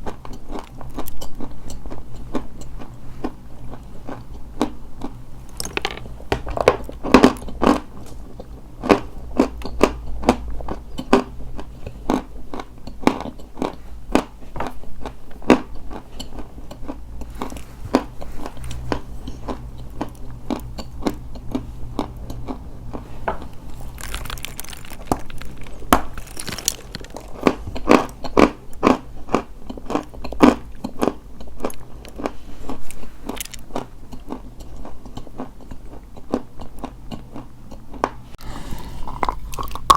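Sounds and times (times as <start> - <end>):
chalk being chewed crunching: 0.0 - 6.1, 6.8 - 39.9.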